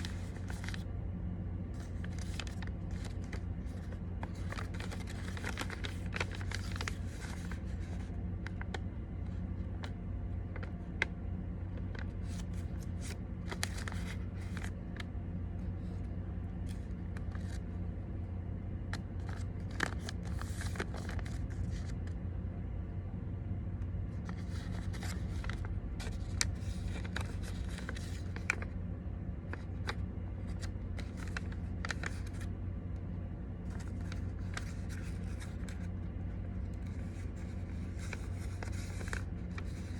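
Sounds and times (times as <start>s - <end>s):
paper rustling and creasing: 0.0s - 0.9s, 1.6s - 22.2s, 24.0s - 32.6s, 33.5s - 39.9s
low steady hum: 0.0s - 39.9s.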